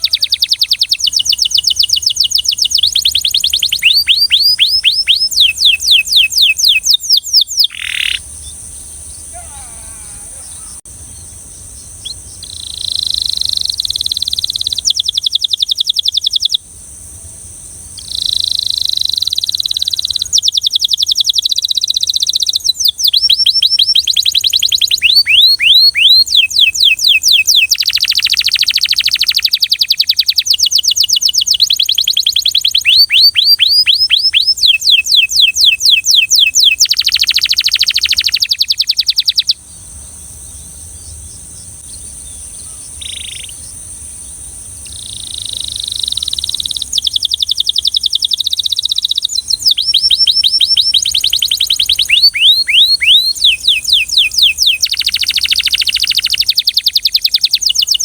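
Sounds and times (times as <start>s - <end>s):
canary singing trills: 0.0s - 16.6s, 17.2s - 58.0s.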